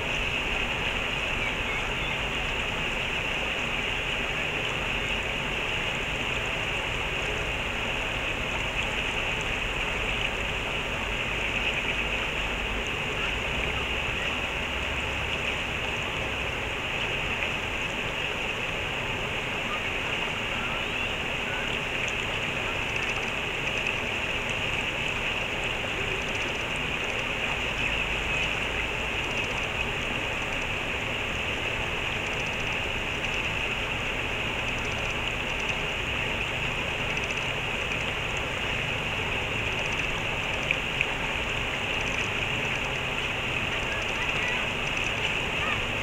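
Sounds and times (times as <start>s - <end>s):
flowing stream: 0.0s - 46.0s.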